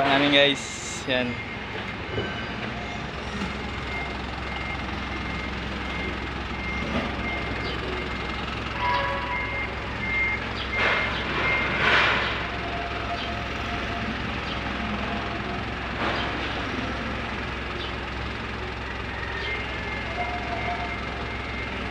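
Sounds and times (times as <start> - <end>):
vehicle backup alarm beeping: 0.0 - 21.9
low engine hum: 0.6 - 21.9.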